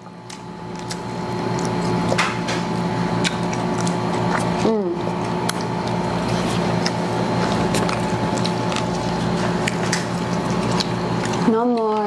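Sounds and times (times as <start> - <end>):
food eaten and handled in paper: 0.0 - 12.0
machine hum: 0.0 - 12.0.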